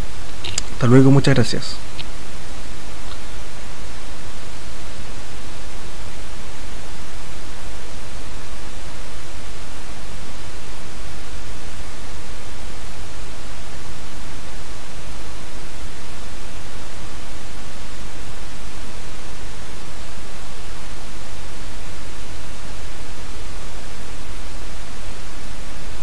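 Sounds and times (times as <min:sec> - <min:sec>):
loud static hiss: 0:00.0 - 0:26.0.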